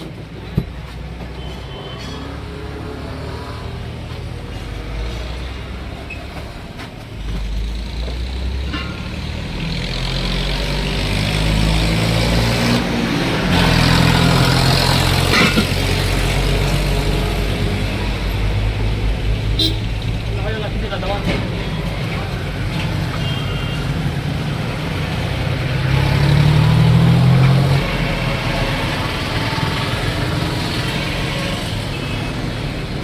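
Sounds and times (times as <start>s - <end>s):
large vehicle engine running: 0.0s - 33.0s.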